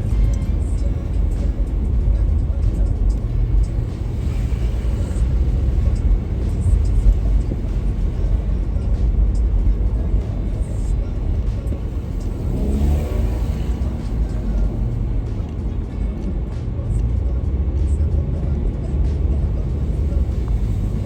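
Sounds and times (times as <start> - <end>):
car rumbling on the move: 0.0 - 21.0
music playing: 0.0 - 21.0.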